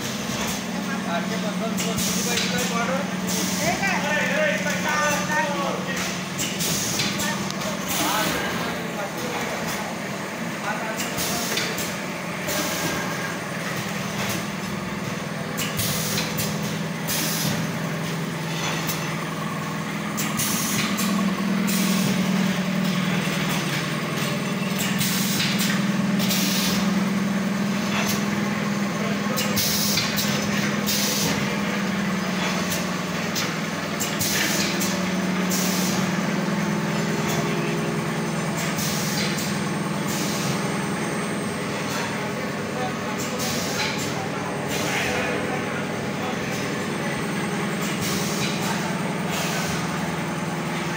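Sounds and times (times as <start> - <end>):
machine motor hum: 0.0 - 50.9.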